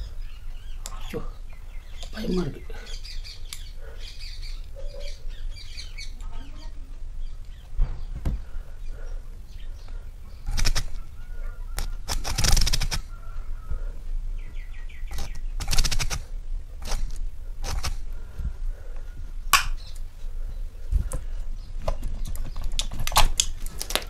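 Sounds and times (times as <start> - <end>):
birds chirping faintly: 0.0 - 24.0
low steady hum: 0.0 - 24.0.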